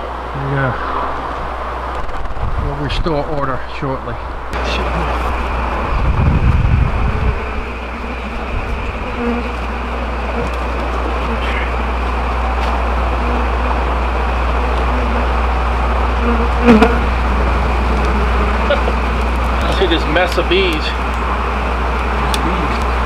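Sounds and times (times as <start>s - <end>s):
constant low hum: 0.0s - 23.0s
low outdoor rumble with hiss: 0.0s - 23.0s
bees buzzing: 4.5s - 23.0s.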